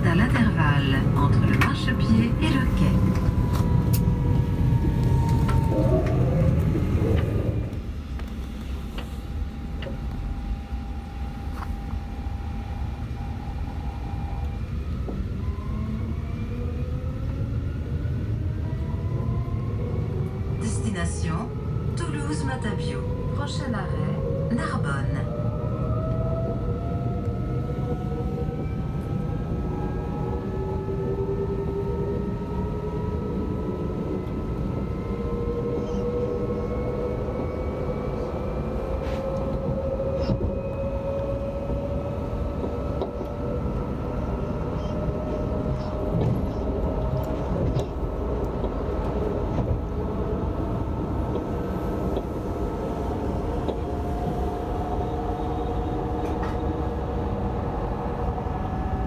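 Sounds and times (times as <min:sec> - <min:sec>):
rumble of wheels on rail: 0:00.0 - 0:59.0
electric traction motors whining: 0:01.7 - 0:20.6, 0:25.3 - 0:59.0.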